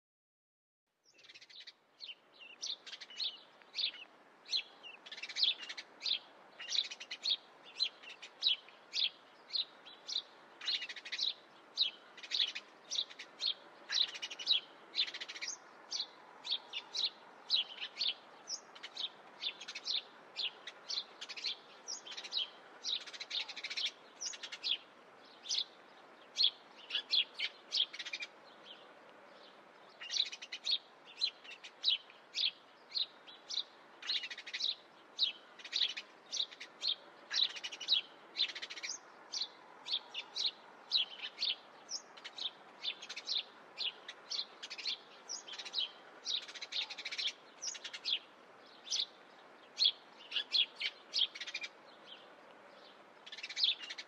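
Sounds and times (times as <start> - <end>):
faint steady hiss: 0.9 - 54.0
small birds chirping: 1.0 - 54.0.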